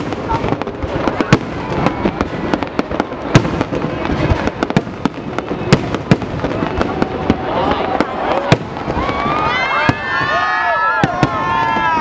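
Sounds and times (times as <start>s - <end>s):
fireworks bursts and crackles: 0.0s - 12.0s
loud firework bangs: 0.0s - 12.0s.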